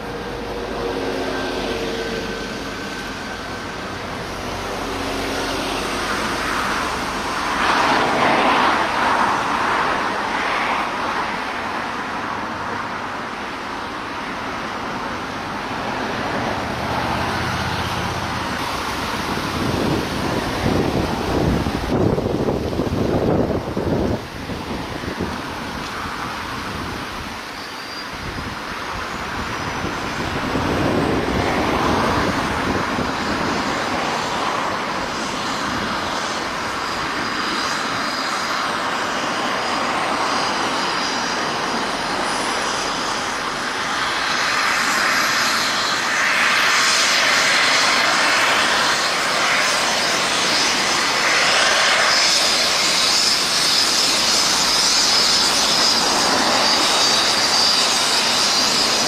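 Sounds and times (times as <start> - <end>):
helicopter rotor and turbine whine: 0.0 - 59.0.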